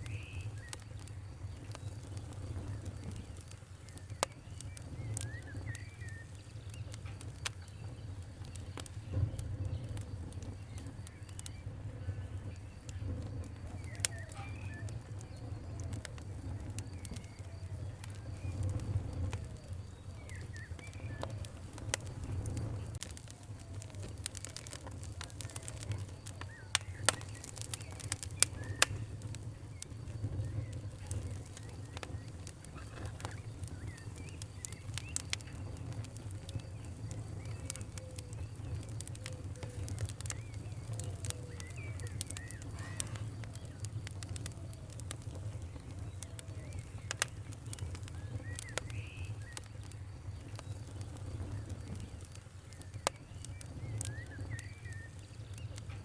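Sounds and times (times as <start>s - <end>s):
bird chirping: 0.0s - 56.0s
fire crackling: 0.0s - 56.0s.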